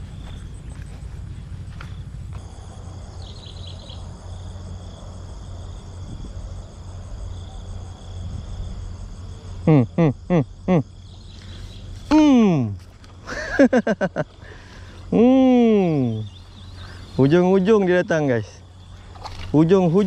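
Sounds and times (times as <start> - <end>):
insects chirring: 0.0 - 20.0
low steady rumble: 0.0 - 20.0.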